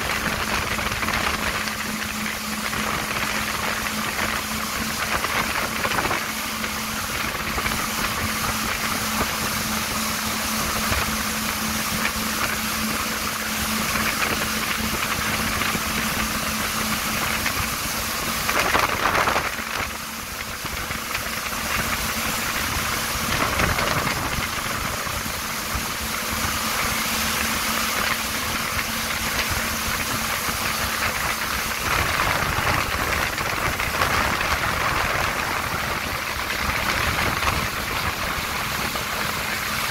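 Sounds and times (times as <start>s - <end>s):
jetski engine humming: 0.0s - 39.9s
rush of jet wake and spray: 0.0s - 39.9s.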